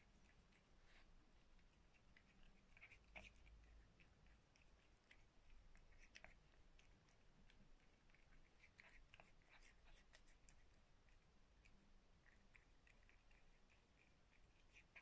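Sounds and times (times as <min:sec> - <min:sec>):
cat chewing food: 0:00.0 - 0:15.0.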